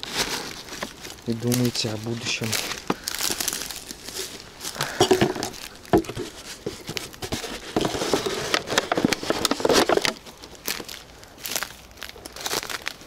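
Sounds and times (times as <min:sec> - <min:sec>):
plastic bag rustling: 0:00.0 - 0:13.0
plastic bottle crinkling: 0:00.0 - 0:13.0.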